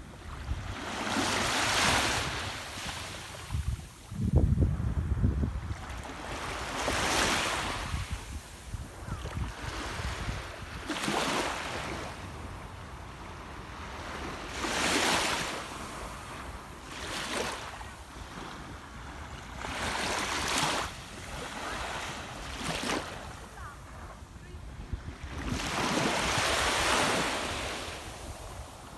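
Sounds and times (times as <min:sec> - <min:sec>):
small waves lapping on shore: 0:00.0 - 0:04.2, 0:05.5 - 0:28.9.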